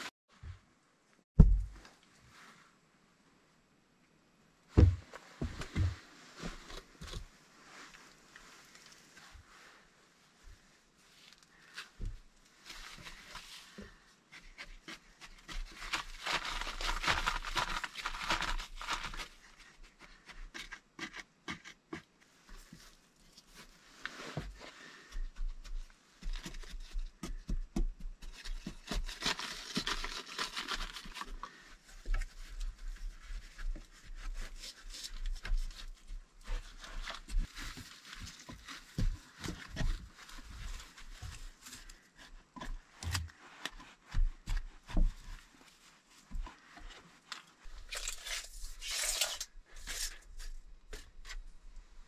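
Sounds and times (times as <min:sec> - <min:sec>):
fibre rustling and scraping: 0:04.8 - 0:27.6, 0:28.2 - 0:52.0.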